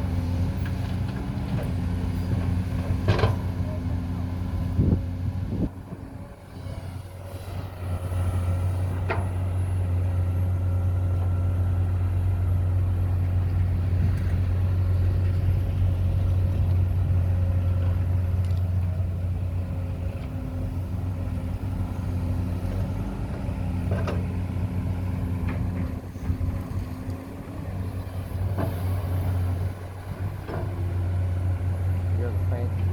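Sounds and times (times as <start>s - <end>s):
excavator engine humming: 0.0s - 32.9s.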